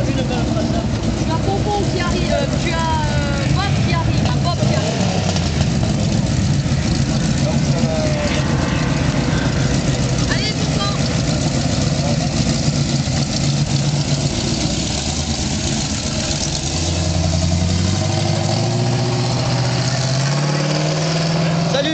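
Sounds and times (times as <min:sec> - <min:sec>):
engine drone: 0:00.0 - 0:21.9
engine rising in pitch: 0:02.2 - 0:21.9.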